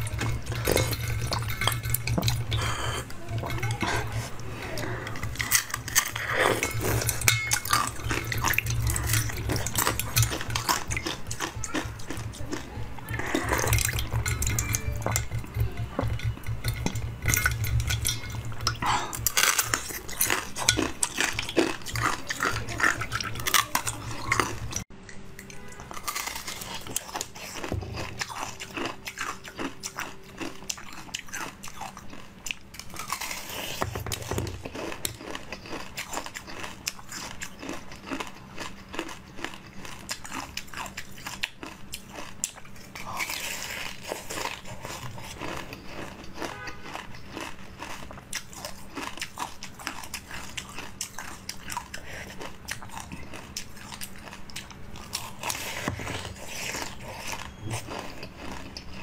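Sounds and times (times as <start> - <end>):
crunchy biting and chewing: 0.0 - 24.8, 25.4 - 59.0.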